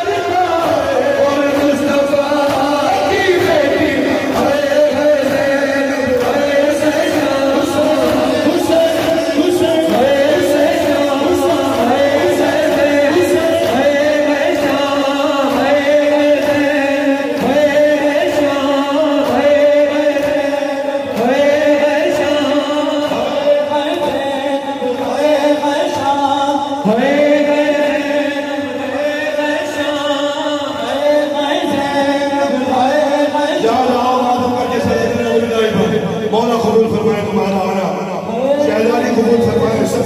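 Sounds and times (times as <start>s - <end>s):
men chanting lament over pa: 0.0s - 40.0s
mourners joining in chant: 0.0s - 40.0s
rhythmic chest-beating slaps: 0.0s - 40.0s.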